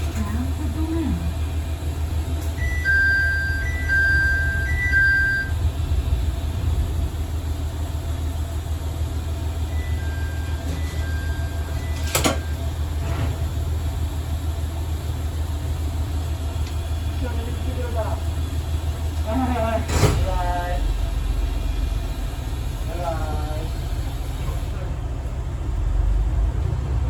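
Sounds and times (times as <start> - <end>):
diesel railcar engine rumble: 0.0 - 27.0.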